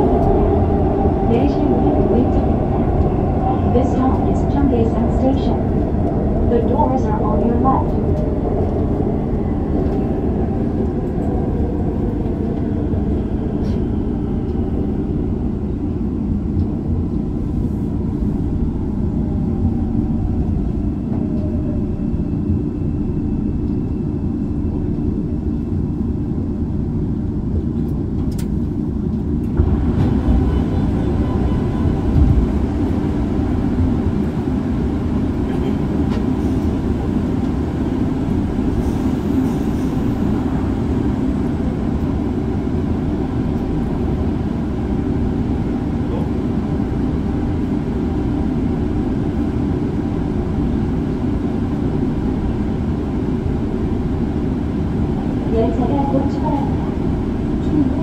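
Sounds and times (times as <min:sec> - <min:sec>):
subway train rumble in tunnel: 0:00.0 - 0:58.0.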